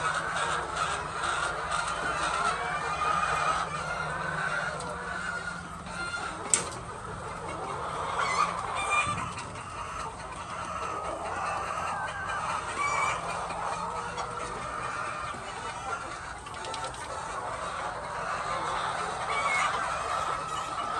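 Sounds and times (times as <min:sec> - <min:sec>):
hens clucking: 0:00.0 - 0:20.9.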